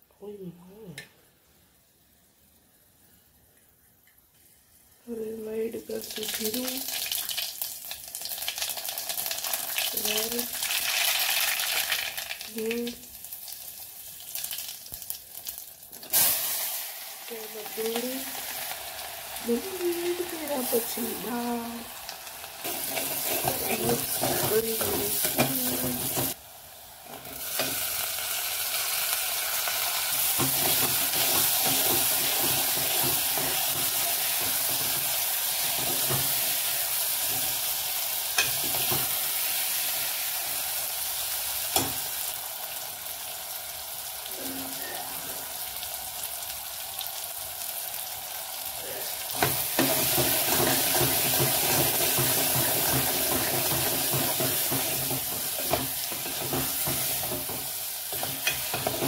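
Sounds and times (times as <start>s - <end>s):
food sizzling in hot oil: 4.5s - 59.0s.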